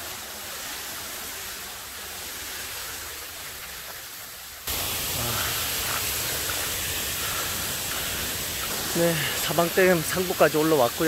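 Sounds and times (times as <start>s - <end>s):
water rushing over stone dam: 0.0s - 11.0s.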